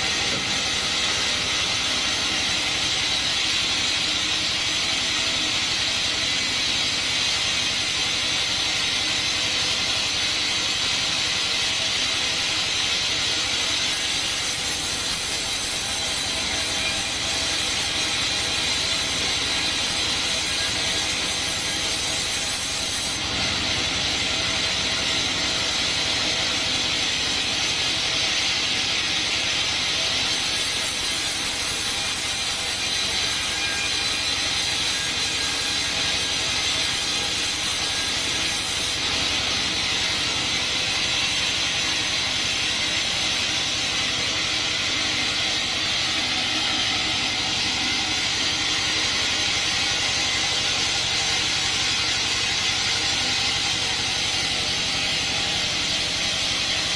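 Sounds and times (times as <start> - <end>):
band saw cutting wood: 0.0 - 56.9.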